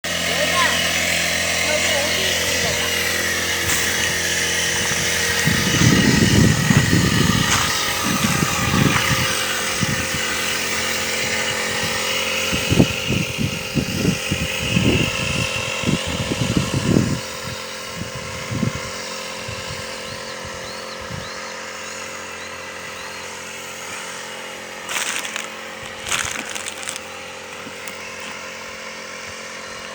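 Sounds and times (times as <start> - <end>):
brush cutter engine running: 0.0 - 29.9.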